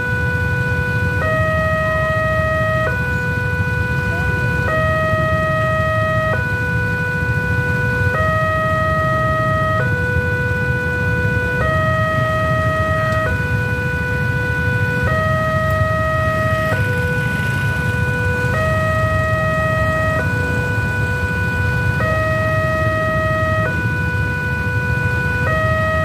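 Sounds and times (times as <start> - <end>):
two-tone crossing alarm: 0.0 - 26.0.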